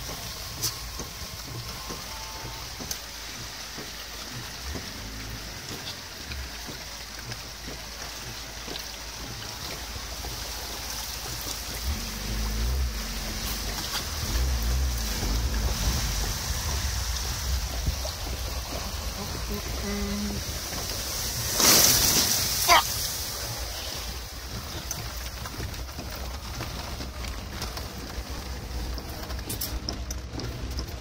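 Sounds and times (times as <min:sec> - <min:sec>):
low engine rumble: 0:00.0 - 0:31.0
water and tyre rush: 0:00.0 - 0:31.0.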